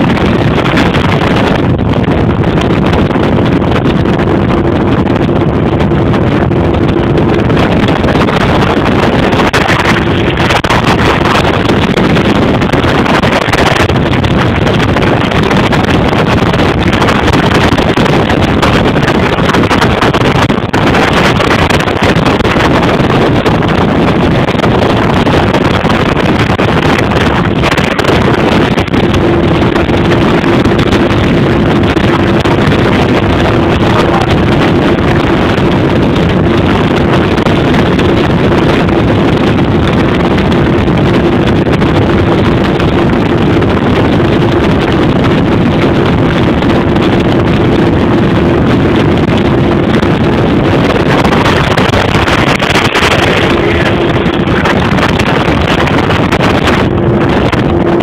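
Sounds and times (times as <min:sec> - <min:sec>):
motorboat engine running: 0:00.0 - 0:58.0
steady hum: 0:00.0 - 0:58.0
water rushing along hull: 0:00.0 - 0:58.0
wind buffeting microphone: 0:00.0 - 0:58.0.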